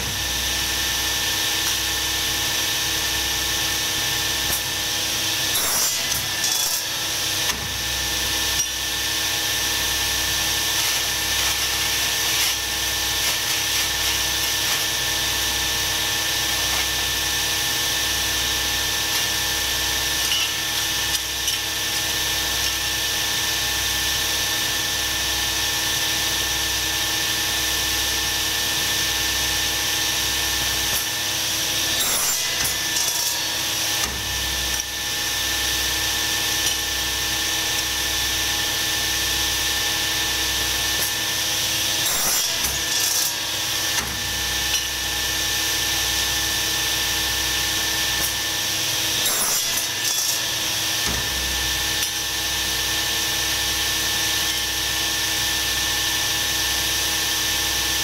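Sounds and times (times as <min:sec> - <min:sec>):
electric power tool running: 0:00.0 - 0:58.0.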